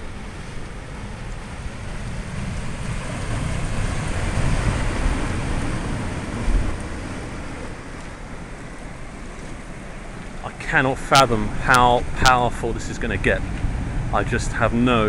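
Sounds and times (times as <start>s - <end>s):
surf crashing: 0.0s - 15.0s
wind on microphone: 0.0s - 15.0s.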